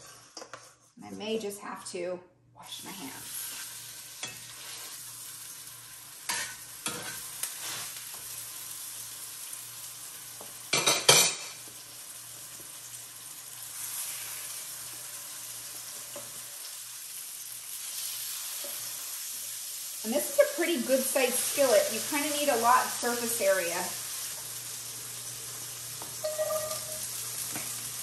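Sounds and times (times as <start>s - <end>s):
meat sizzling in a skillet: 2.8s - 28.0s.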